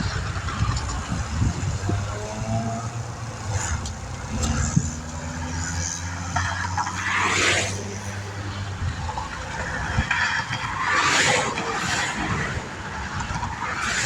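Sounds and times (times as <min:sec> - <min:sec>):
highway traffic passing: 0:00.0 - 0:14.0
vehicle swishing past: 0:00.0 - 0:14.0.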